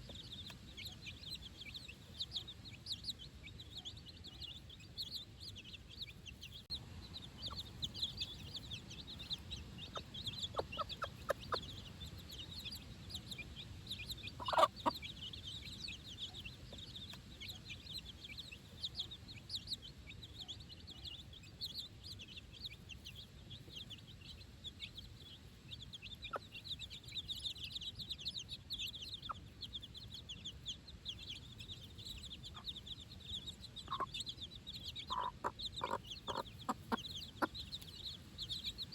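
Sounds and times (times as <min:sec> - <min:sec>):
hen clucking: 0:00.0 - 0:22.2, 0:22.8 - 0:38.9
chicks peeping: 0:00.0 - 0:38.9.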